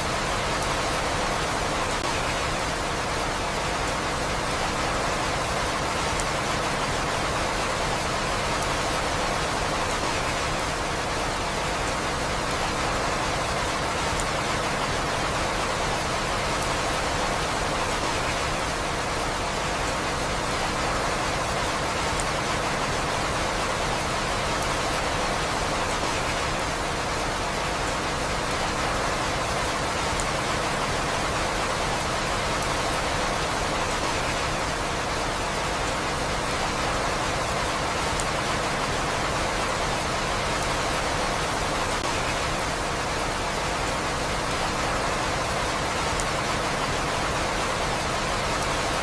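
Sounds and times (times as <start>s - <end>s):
faint raindrop ticks: 0.0s - 49.0s
steady rain hiss: 0.0s - 49.0s.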